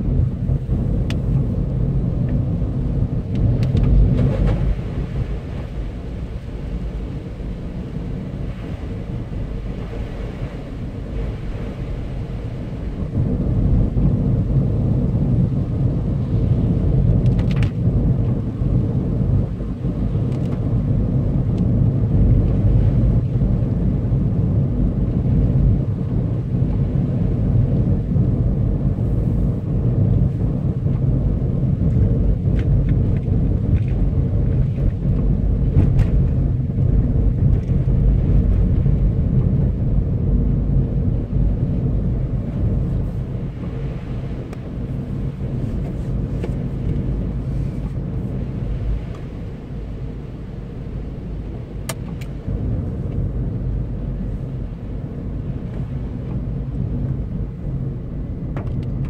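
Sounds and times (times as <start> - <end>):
car driving on wet road: 0.0 - 59.0.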